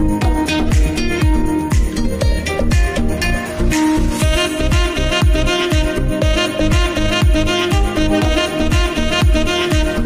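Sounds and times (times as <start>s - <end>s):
deep kick drum thudding: 0.0s - 3.2s, 4.2s - 9.9s
background music with steady beat: 0.0s - 10.0s.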